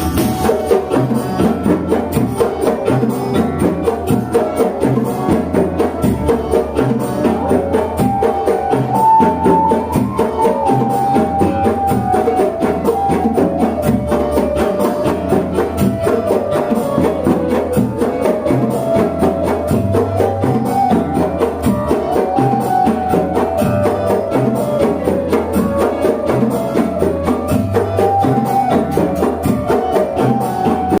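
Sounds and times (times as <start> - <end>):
frame drums playing rhythm: 0.0 - 31.0
melody line: 0.0 - 31.0.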